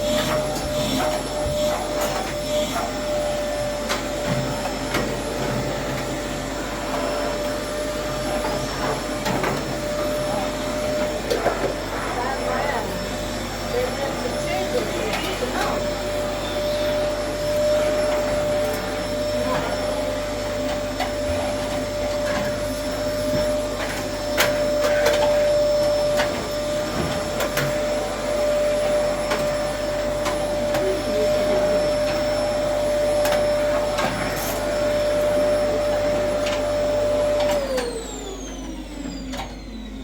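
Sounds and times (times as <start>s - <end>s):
appliance motor whining: 0.0s - 40.0s.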